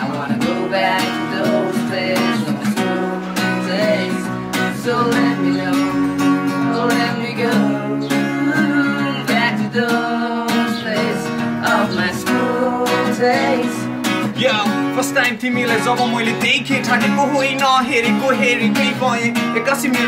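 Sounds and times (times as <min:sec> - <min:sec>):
acoustic guitar strumming: 0:00.0 - 0:20.0
man singing: 0:00.0 - 0:20.0.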